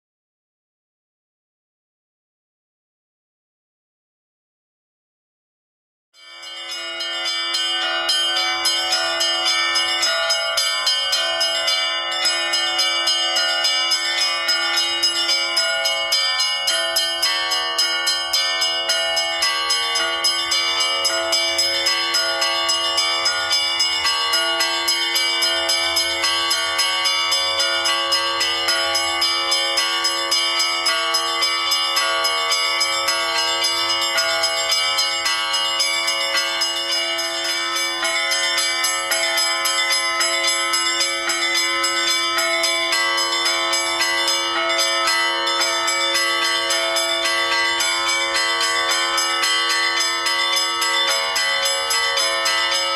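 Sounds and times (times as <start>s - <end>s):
bells ringing: 6.2s - 52.9s.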